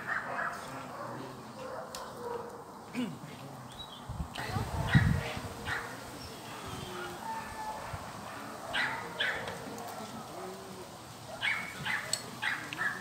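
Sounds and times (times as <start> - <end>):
dogs barking: 0.0 - 2.9, 4.6 - 13.0.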